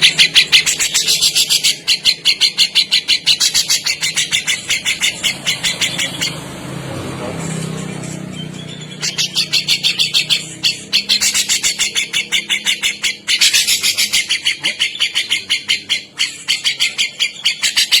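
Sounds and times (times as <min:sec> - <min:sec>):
bulbul chattering call: 0:00.0 - 0:06.6, 0:07.8 - 0:18.0.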